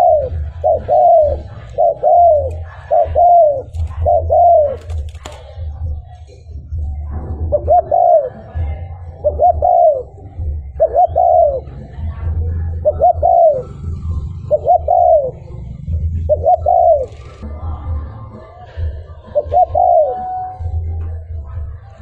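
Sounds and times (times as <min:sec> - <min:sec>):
dove cooing: 0:00.0 - 0:17.4, 0:18.8 - 0:22.0.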